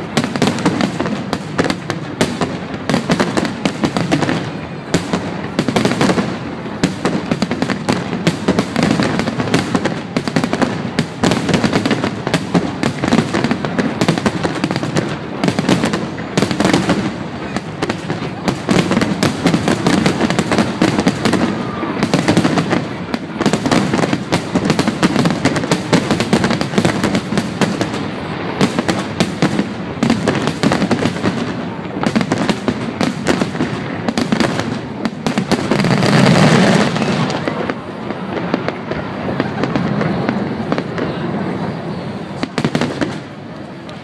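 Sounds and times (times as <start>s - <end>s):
deep firework booms: 0.0s - 43.4s
fireworks crackling and popping: 0.0s - 44.0s.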